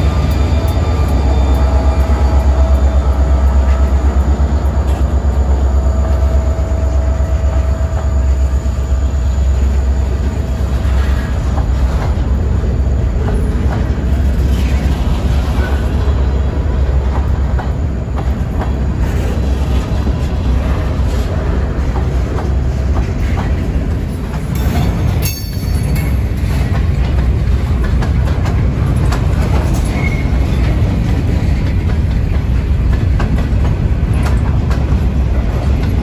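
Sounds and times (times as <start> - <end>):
diesel locomotive engine rumble: 0.0 - 36.0
train wheels clicking over rail joints: 0.0 - 36.0.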